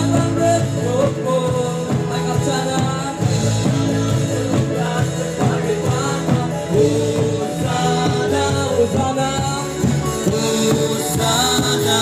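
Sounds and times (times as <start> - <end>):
bass: 0.0 - 12.0
drum kit beat: 0.0 - 12.0
electric guitars: 0.0 - 12.0
keyboard: 0.0 - 12.0
voices singing: 0.0 - 12.0.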